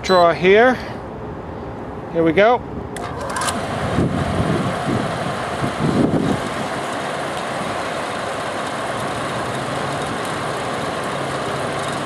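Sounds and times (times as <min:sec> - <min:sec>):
exhaust fan air rush: 0:00.0 - 0:12.0
faint motor hum: 0:00.7 - 0:12.0.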